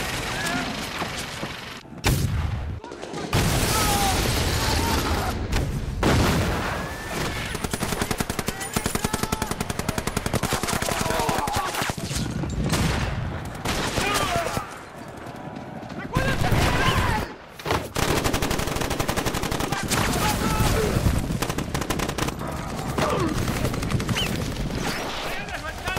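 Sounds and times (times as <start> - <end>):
gunfire and blasts: 0.0 - 25.9.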